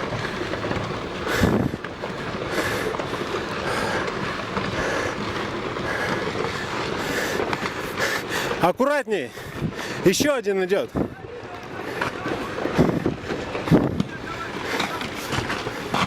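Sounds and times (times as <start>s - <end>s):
rocks tumbling: 0.0s - 16.0s.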